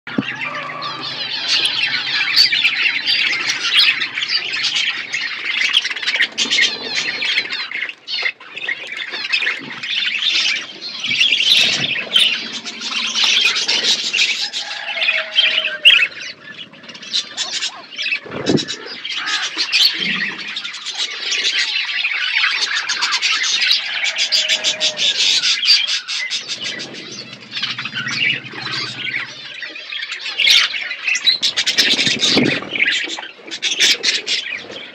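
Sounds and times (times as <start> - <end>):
budgerigars chattering and calling: 0.1 - 34.9.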